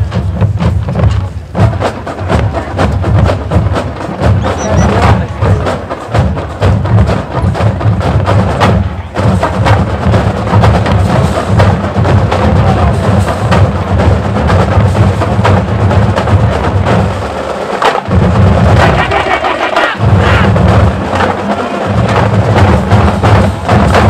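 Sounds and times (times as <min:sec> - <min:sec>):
marching band playing: 0:00.0 - 0:24.0
rapid sharp percussion hits: 0:00.0 - 0:24.0.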